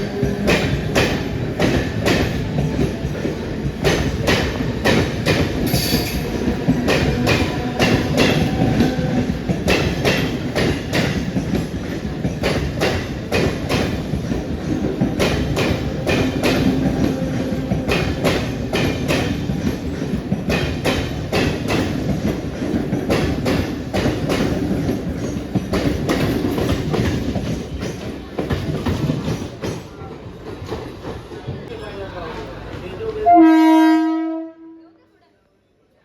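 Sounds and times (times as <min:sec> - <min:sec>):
electric train running past: 0:00.0 - 0:34.8.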